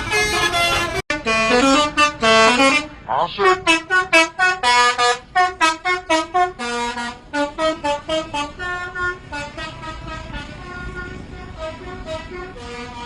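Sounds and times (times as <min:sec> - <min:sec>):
multi-tone air horn tune: 0:00.0 - 0:13.0.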